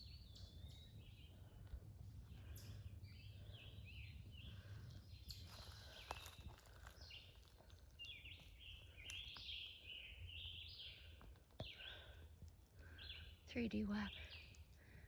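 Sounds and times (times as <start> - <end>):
faint songbird chirping: 0.0 - 15.0.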